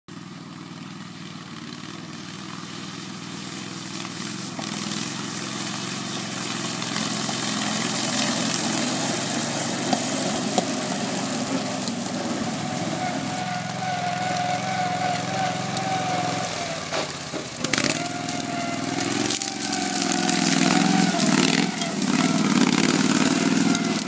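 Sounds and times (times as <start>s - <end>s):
tracked vehicle engine running: 0.1s - 24.0s
rattle and hiss: 2.5s - 23.8s.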